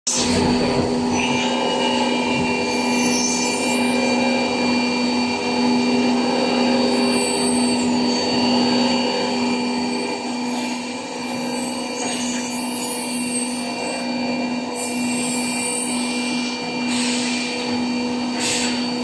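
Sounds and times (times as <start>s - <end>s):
milling machine whine: 0.1s - 19.0s.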